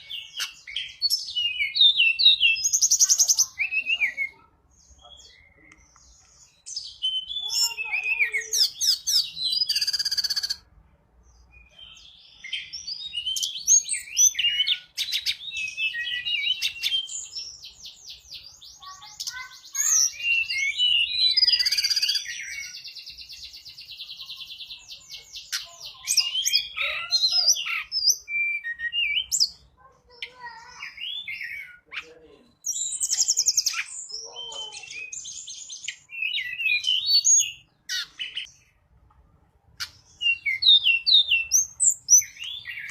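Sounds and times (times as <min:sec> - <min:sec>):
bird chirps and trills: 0:00.0 - 0:10.7, 0:11.3 - 0:38.8, 0:39.8 - 0:42.9.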